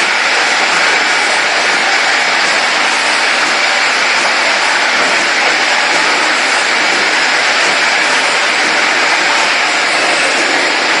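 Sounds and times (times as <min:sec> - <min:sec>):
bottling machine running: 0:00.0 - 0:11.0.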